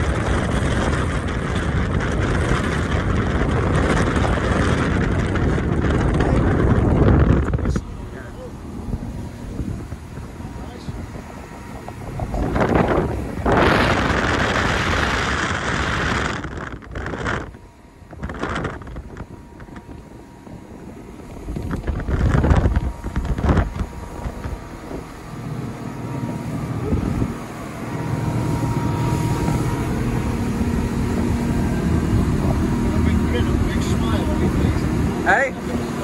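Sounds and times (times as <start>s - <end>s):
outboard motor running: 0.0s - 36.0s
wind gusting on microphone: 0.0s - 36.0s.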